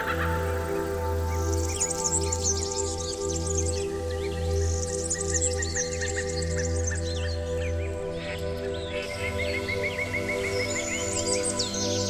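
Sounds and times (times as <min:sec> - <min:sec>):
bird singing a trill: 0:00.0 - 0:12.0
meditation music with held chords: 0:00.0 - 0:12.0.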